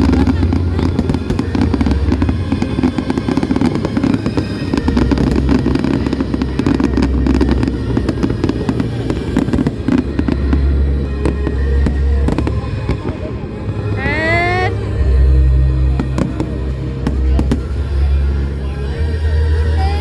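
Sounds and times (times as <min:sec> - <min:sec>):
fireworks bursting and crackling: 0:00.0 - 0:14.4, 0:16.0 - 0:17.8
low rumble: 0:00.0 - 0:20.0
music playing: 0:00.0 - 0:20.0.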